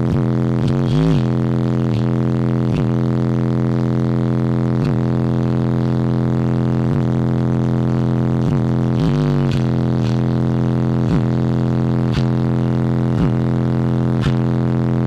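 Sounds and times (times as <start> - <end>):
subwoofer playing buzzy low bass: 0.0 - 15.0.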